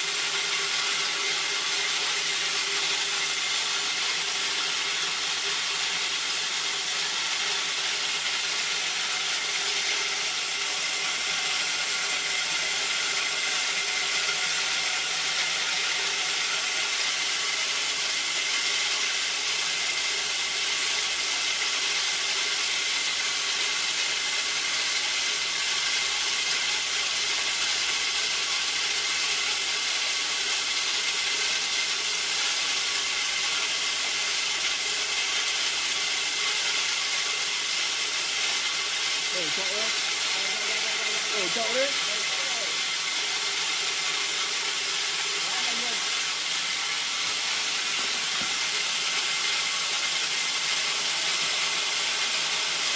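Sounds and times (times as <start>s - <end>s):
corn mill grinding: 0.0s - 52.9s.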